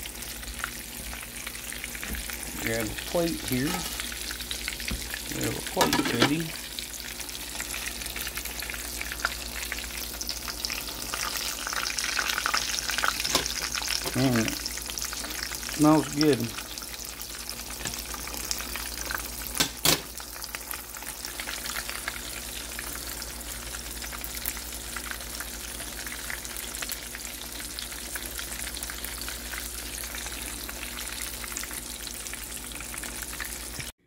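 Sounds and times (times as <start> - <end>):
oil sizzling and crackling: 0.0 - 34.0.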